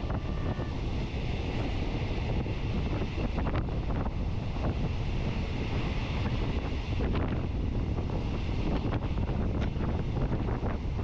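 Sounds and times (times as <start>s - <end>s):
moving train rumble: 0.0s - 11.0s
wind buffeting microphone: 0.0s - 11.0s.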